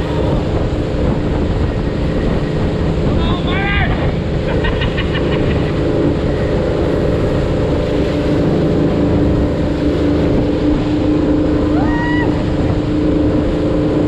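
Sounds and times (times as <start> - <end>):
boat engine running: 0.0 - 14.0
wind on microphone: 0.0 - 14.0.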